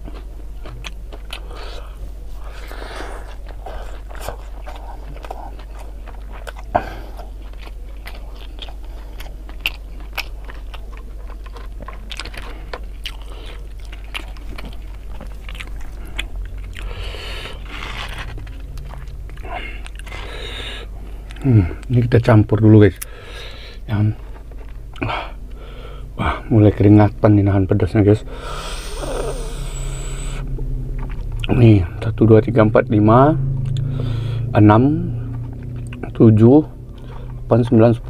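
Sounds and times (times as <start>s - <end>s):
crunching and chewing fritters: 0.0s - 32.6s, 35.1s - 38.0s.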